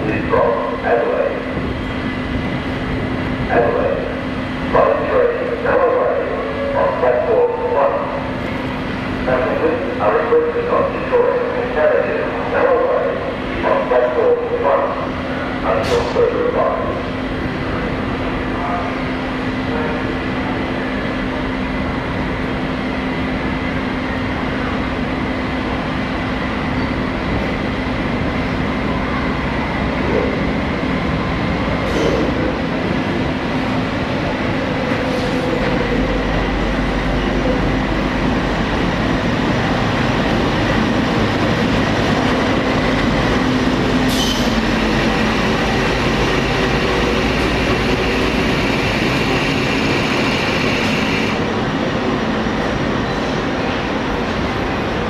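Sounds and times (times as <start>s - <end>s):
diesel locomotive engine hum: 0.0s - 55.0s
train rumble: 0.0s - 55.0s.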